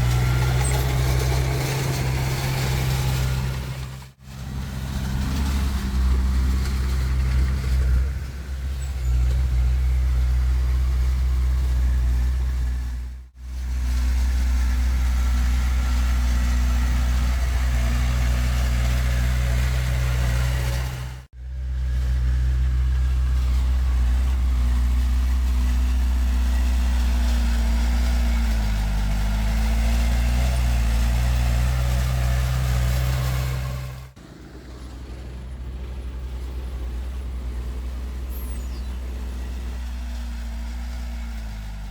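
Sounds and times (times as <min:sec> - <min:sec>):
heavy diesel engine droning: 0:00.0 - 0:41.9.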